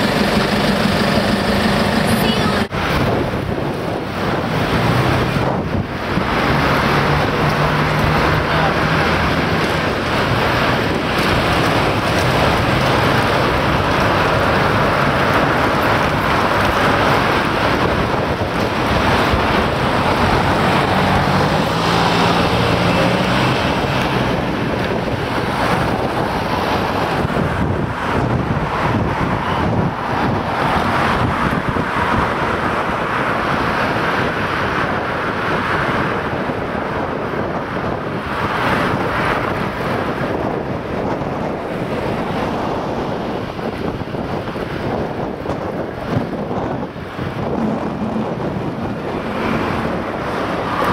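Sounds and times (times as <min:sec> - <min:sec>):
street traffic: 0:00.0 - 0:50.9
wind on microphone: 0:00.0 - 0:50.9.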